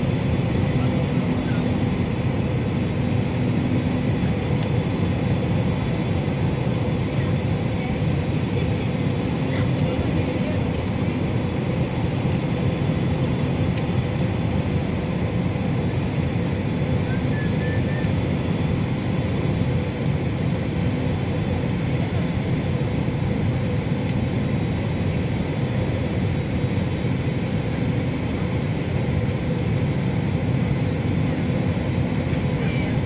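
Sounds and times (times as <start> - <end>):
airplane cabin noise: 0.0 - 33.0.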